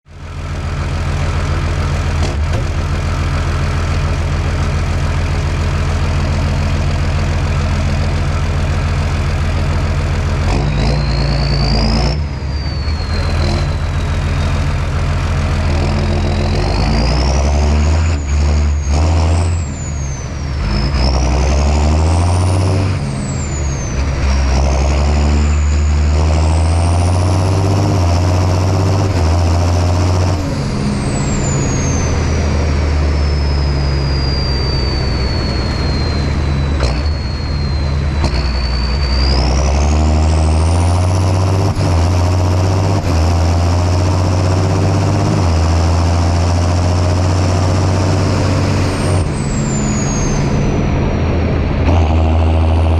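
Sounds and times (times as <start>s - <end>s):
tractor diesel engine running: 0.0s - 52.9s
high-pitched whine: 0.1s - 52.9s.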